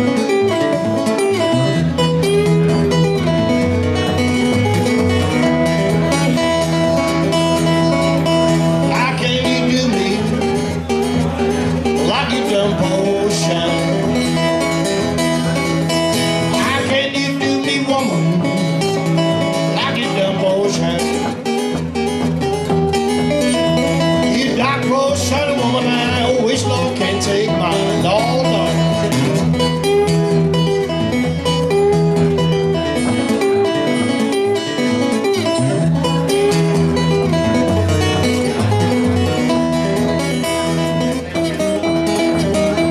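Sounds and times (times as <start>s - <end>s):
acoustic guitars playing blues: 0.0s - 42.9s.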